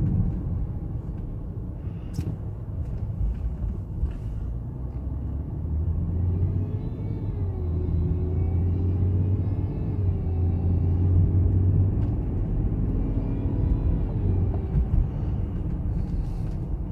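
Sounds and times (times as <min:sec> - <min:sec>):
car low rumble: 0:00.0 - 0:16.9.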